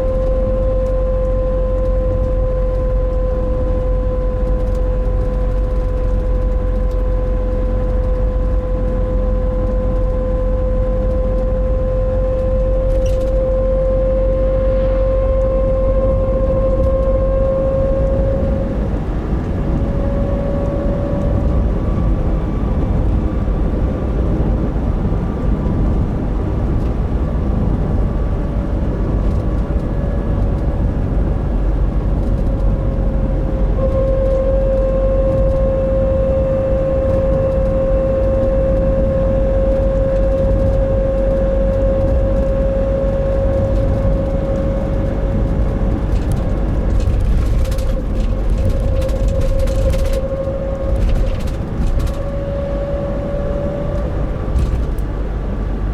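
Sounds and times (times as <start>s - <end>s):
humming drone: 0.0s - 55.9s
van engine and road rumble: 0.0s - 55.9s.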